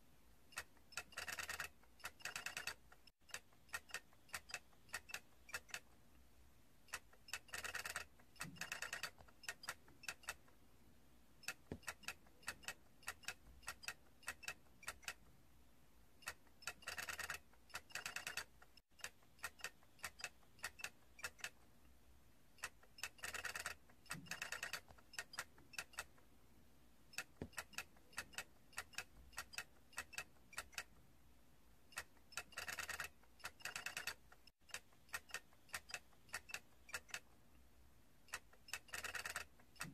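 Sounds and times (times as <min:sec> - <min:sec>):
plastic toy clicking: 0:00.6 - 0:06.0, 0:06.9 - 0:10.5, 0:11.4 - 0:15.2, 0:16.2 - 0:21.6, 0:22.6 - 0:26.2, 0:27.1 - 0:30.9, 0:31.9 - 0:37.4, 0:38.3 - 0:39.9.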